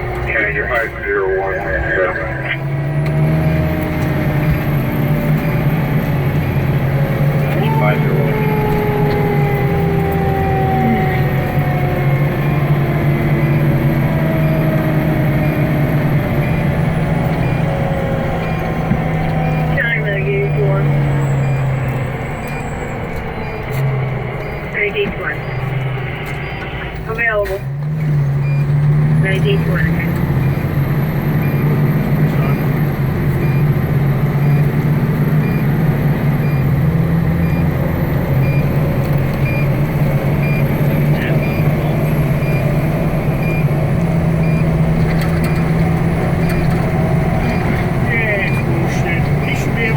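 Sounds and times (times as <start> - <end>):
diesel engine droning: 0.0 - 49.9
road noise: 0.0 - 49.9.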